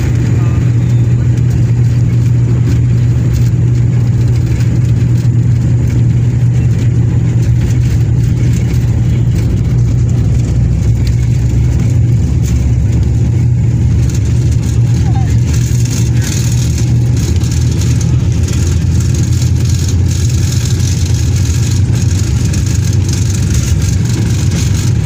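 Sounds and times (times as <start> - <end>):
airliner engines droning in cabin: 0.0 - 25.0.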